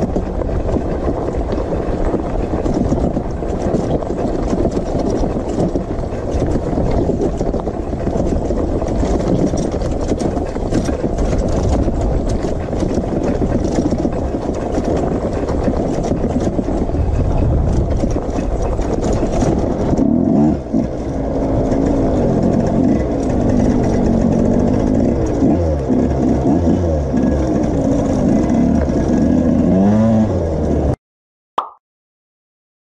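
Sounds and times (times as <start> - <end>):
dirt bike engine on gravel: 0.0 - 30.9.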